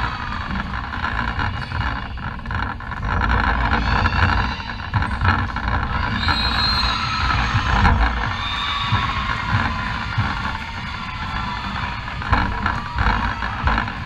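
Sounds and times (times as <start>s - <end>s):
distant voices: 0.0s - 14.0s
low rumble in sports hall: 0.0s - 14.0s.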